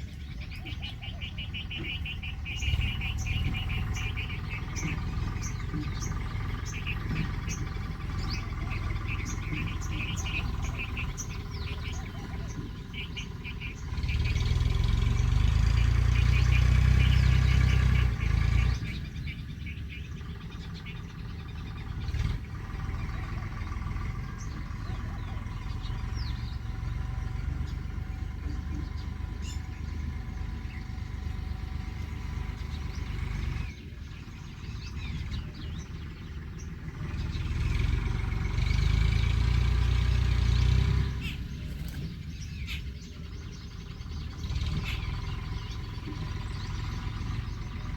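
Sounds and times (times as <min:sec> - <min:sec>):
faint bird chirps: 0:00.0 - 0:47.9
vehicles passing: 0:00.0 - 0:47.9.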